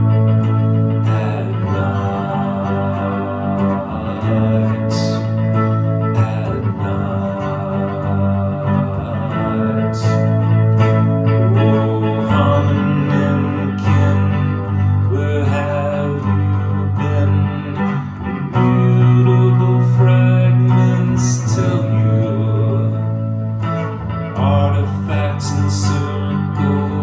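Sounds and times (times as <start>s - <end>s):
electric guitar chords through amplifier: 0.0s - 27.0s.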